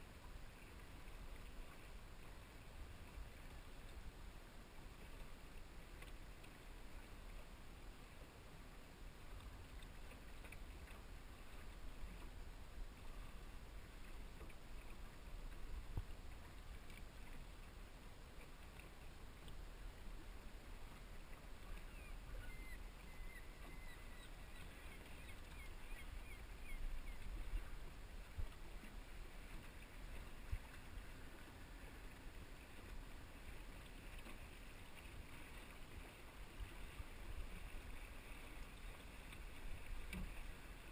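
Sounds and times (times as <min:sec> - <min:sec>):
water lapping against boat hull: 0:00.0 - 0:40.9.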